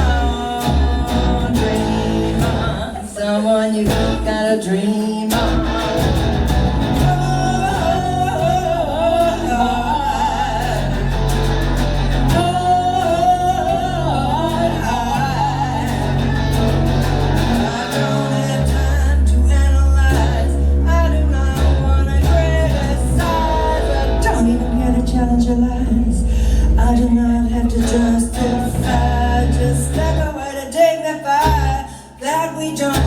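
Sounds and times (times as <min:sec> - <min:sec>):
bass line: 0:00.0 - 0:04.6, 0:05.3 - 0:30.5, 0:31.4 - 0:32.0
guitar: 0:00.0 - 0:33.0
wordless vocal melody: 0:00.0 - 0:33.0.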